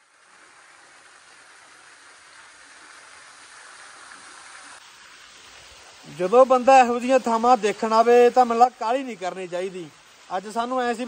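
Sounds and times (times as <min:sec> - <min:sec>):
stream running over rocks: 0:00.0 - 0:11.0
waterfall: 0:00.0 - 0:11.0.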